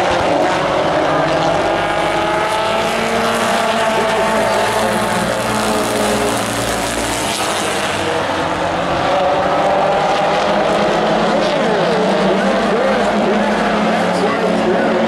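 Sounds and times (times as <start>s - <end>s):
race truck engines: 0.0s - 15.0s.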